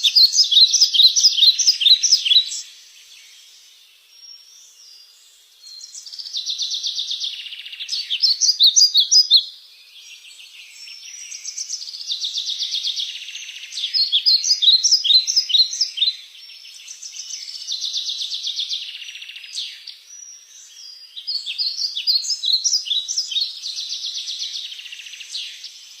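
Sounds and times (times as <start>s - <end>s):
songbird singing trills: 0.0s - 26.0s.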